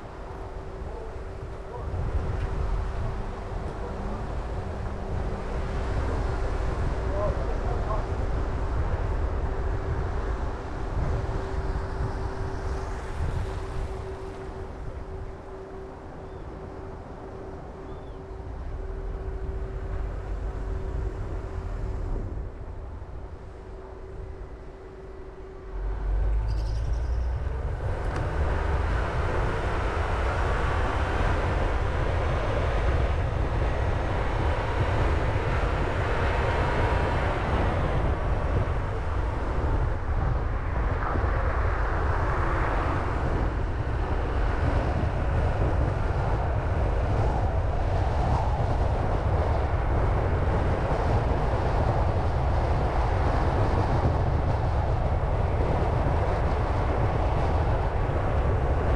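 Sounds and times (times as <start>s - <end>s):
car tyre and wind noise: 0.0s - 58.9s.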